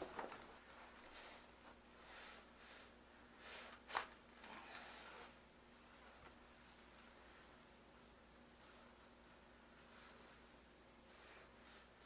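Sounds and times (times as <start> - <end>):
quiet breathing: 0.6 - 12.0.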